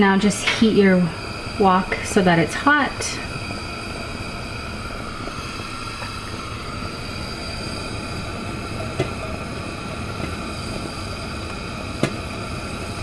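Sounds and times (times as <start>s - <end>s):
gas stove burner hum: 0.0s - 13.0s.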